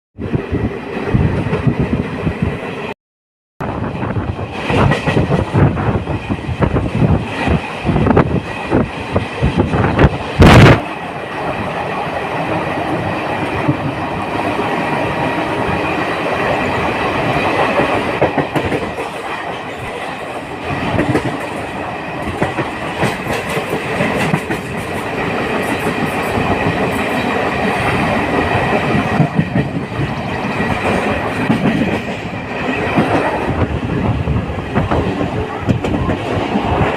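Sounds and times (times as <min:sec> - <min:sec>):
train wheels clattering on rails: 0:04.1 - 0:36.9.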